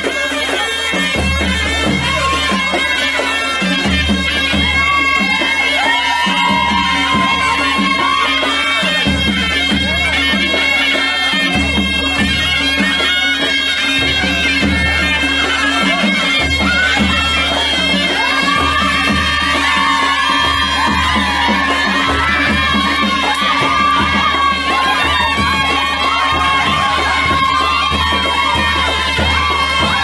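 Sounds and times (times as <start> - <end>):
steady drum beat: 0.0 - 30.0.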